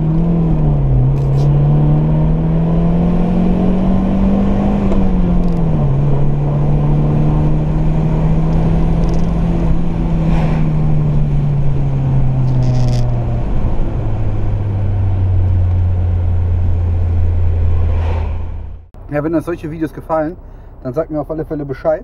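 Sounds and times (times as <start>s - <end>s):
car engine drone: 0.0s - 22.0s.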